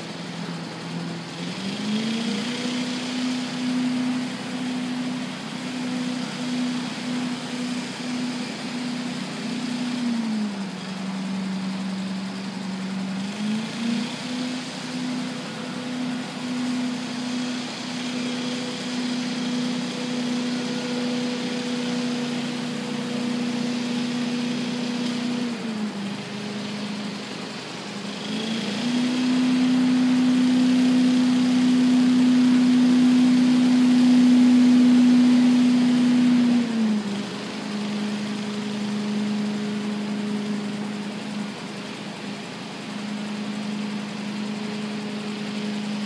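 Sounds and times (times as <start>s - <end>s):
leaf blower engine running: 0.0s - 46.0s.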